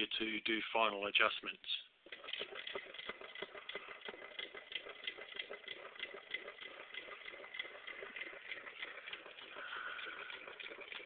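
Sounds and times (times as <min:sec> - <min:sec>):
small engine clicking rapidly: 0:02.0 - 0:11.0.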